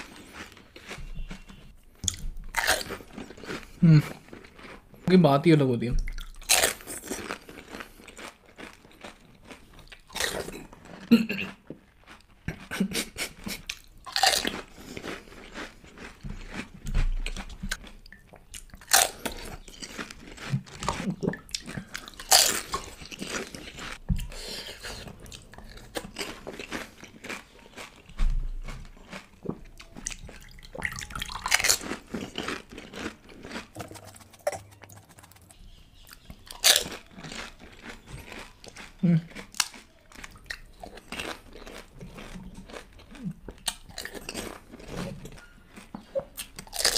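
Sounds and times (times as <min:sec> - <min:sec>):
wet chewing: 0:00.0 - 0:05.1, 0:06.0 - 0:46.9.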